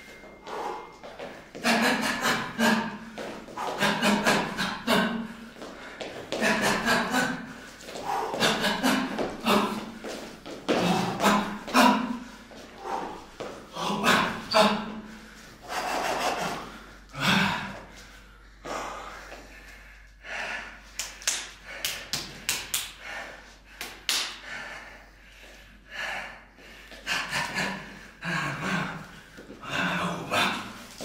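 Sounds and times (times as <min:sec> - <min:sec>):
man breathing forcefully: 0:00.0 - 0:31.0.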